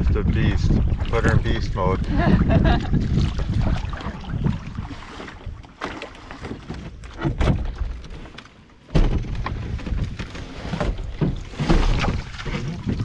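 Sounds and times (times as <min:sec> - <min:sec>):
canoe knocks and thunks: 0:02.1 - 0:13.0.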